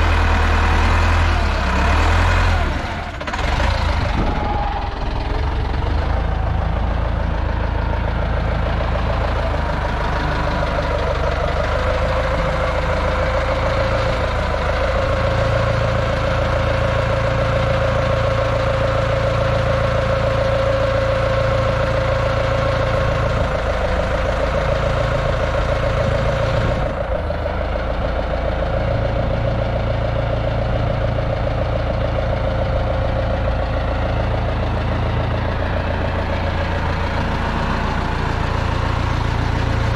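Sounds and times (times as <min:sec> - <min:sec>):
diesel forklift engine running: 0:00.0 - 0:39.9.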